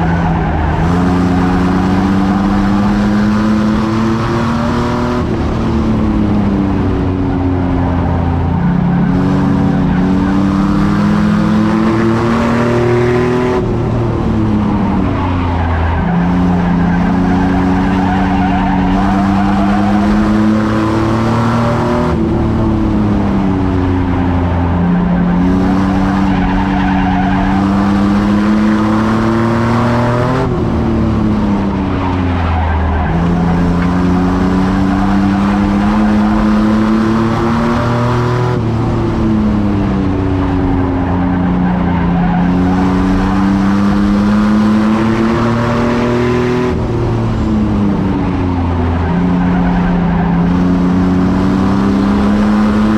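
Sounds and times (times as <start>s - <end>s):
race truck engine running hard: 0.0s - 52.9s.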